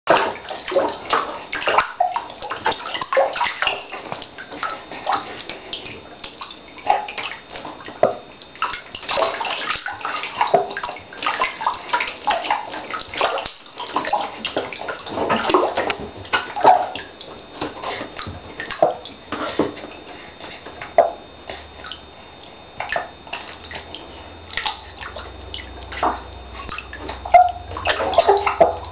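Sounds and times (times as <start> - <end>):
water splashing and sloshing: 0.1 - 28.9.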